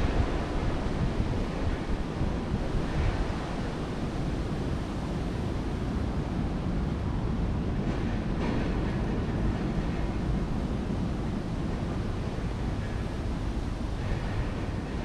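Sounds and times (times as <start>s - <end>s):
rain: 0.0s - 15.0s
wind buffeting microphone: 0.0s - 15.0s.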